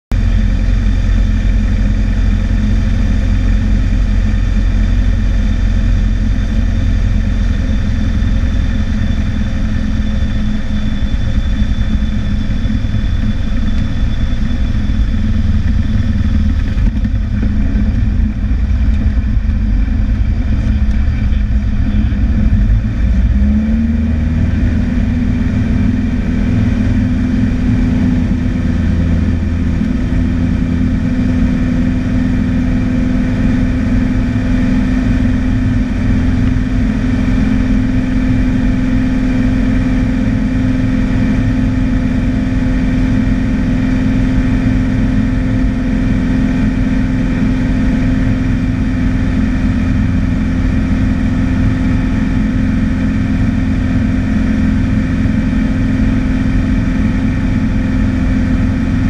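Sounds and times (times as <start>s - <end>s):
small plane engine and propeller: 0.0s - 59.0s.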